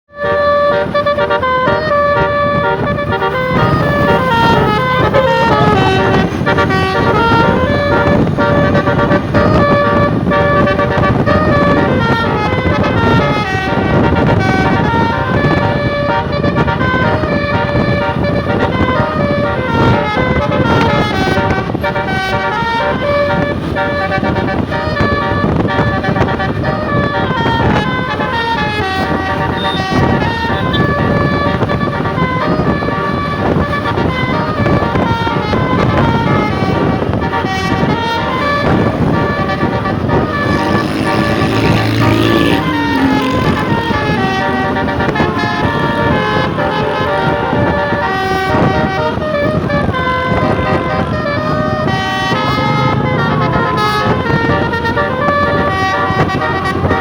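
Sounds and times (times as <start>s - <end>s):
bus and traffic rumble: 0.1s - 57.0s
musical air horns melody: 0.1s - 57.0s.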